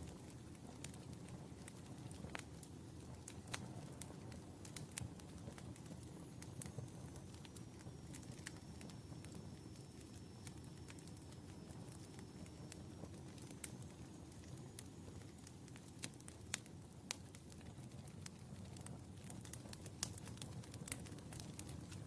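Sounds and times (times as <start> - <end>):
fire crackles and pops: 0.0 - 22.0
fire low rumble: 0.0 - 22.0.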